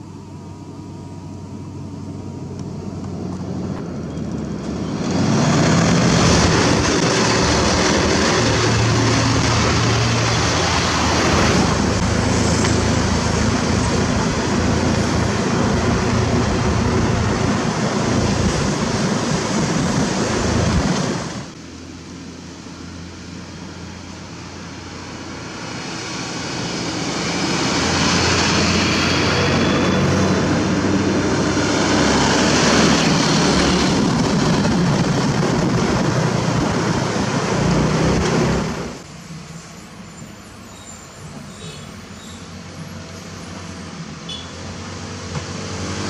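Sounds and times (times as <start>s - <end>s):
road noise rush: 0.0s - 46.0s
truck engine drone: 0.0s - 46.0s.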